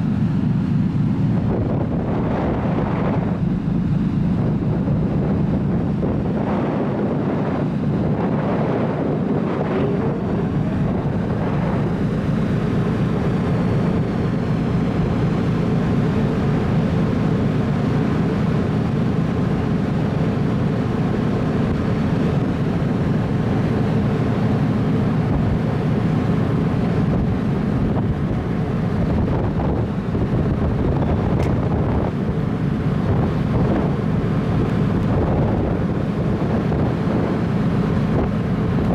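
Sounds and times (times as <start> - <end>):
ship engines droning: 0.0 - 38.9
wind buffeting microphone: 0.0 - 38.9.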